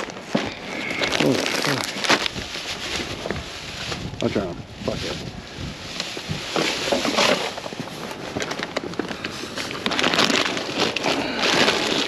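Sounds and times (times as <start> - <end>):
boxes and packaging rustling: 0.0 - 12.0.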